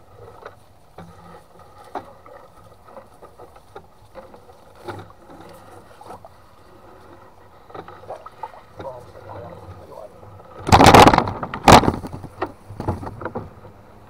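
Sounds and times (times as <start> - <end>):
net hauled out of water: 0.0 - 13.8.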